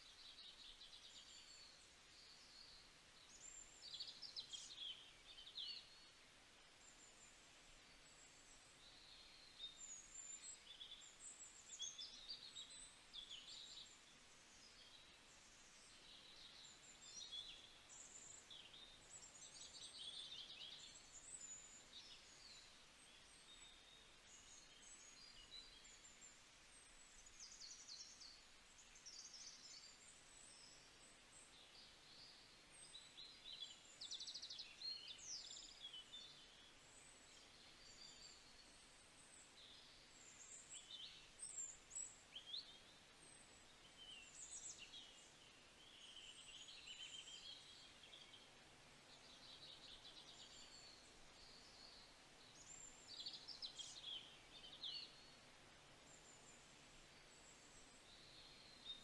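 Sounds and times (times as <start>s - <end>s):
low background hiss: 0.0s - 59.0s
small birds chirping: 0.0s - 59.0s.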